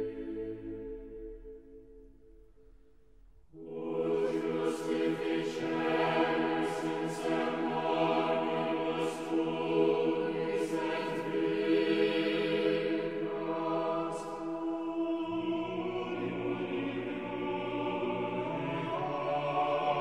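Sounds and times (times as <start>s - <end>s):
slow choral music: 0.0s - 20.0s.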